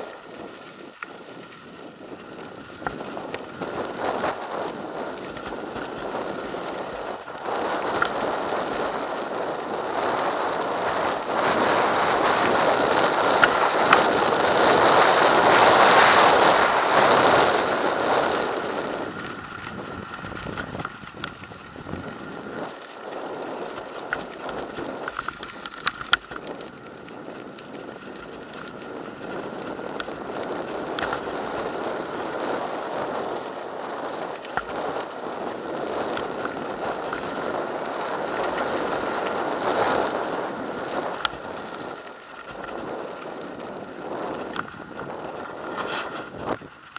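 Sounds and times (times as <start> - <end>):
tyres rolling over gravel: 0.0 - 46.9
wind buffeting microphone: 0.0 - 46.9.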